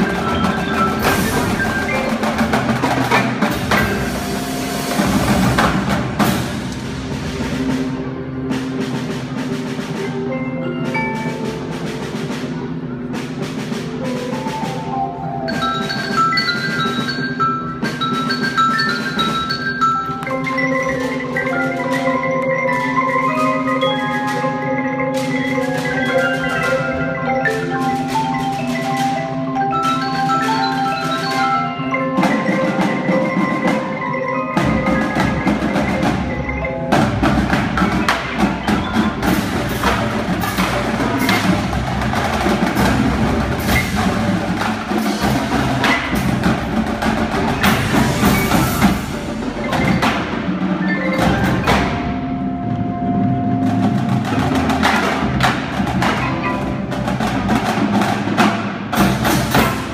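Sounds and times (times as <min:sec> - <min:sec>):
loud drumming and cymbals: 0:00.0 - 0:59.9
marimba melody: 0:00.0 - 0:59.9.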